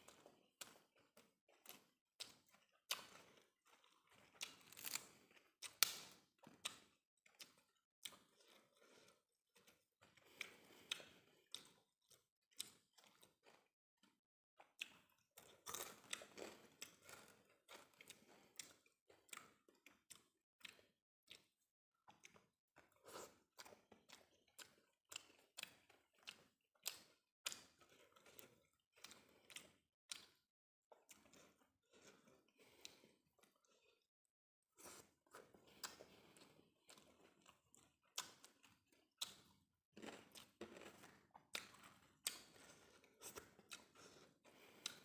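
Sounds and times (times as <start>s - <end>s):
wet chewing mouth sounds: 0.0s - 34.1s, 34.8s - 45.0s.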